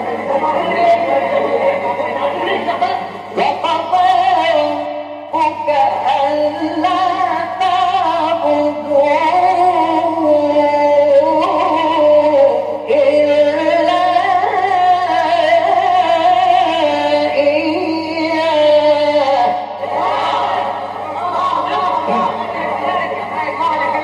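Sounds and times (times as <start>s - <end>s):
man reciting melodically: 0.0s - 19.8s
low recording hum: 0.0s - 24.0s.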